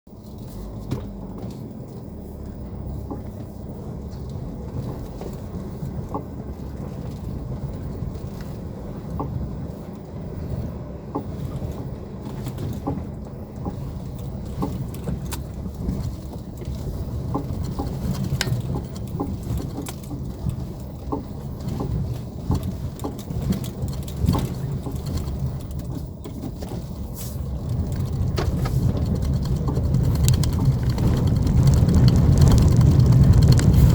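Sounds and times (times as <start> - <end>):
low road rumble: 0.0 - 33.9
suspension clicks and knocks: 0.1 - 33.9.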